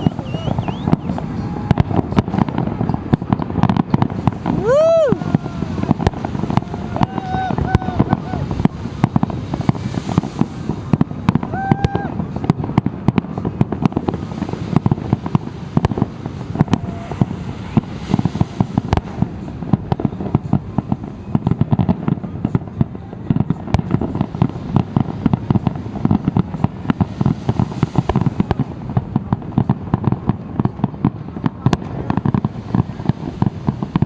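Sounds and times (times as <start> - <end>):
fireworks exploding: 0.0 - 34.0.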